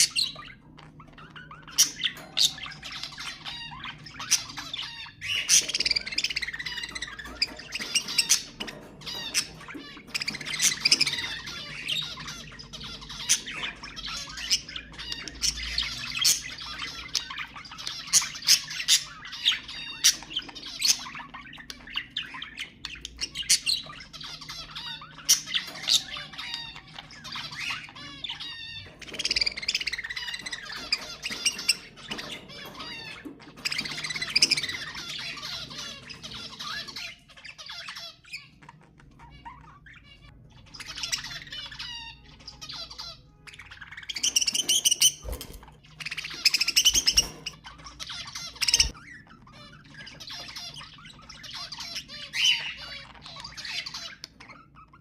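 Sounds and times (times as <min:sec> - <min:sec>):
budgerigars chattering and warbling: 0:00.0 - 0:55.0.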